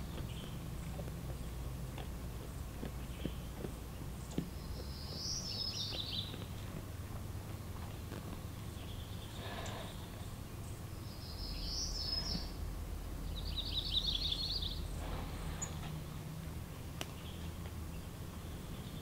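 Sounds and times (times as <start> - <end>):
songbird singing: 0.0 - 19.0
steady low hum: 0.0 - 19.0.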